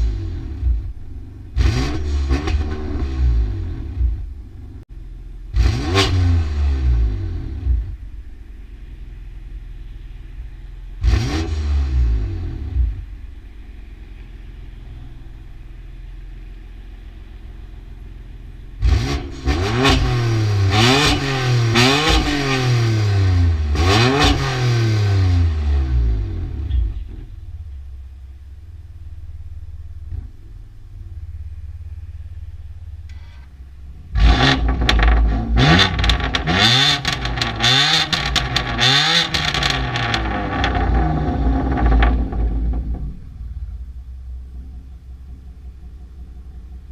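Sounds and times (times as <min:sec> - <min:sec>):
car engine idling with rev blips: 0:00.0 - 0:46.9.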